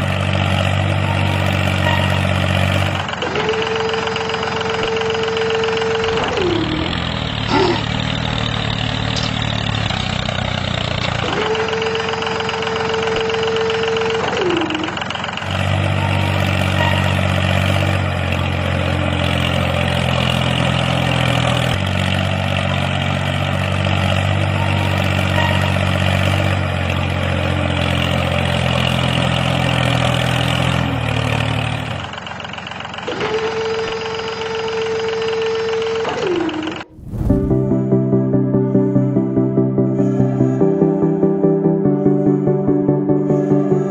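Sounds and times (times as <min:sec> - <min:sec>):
mini tractor engine drone: 0:00.0 - 0:36.9.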